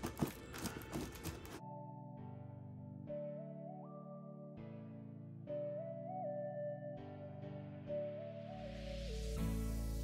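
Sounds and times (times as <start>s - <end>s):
soft instrumental music: 1.6s - 10.0s.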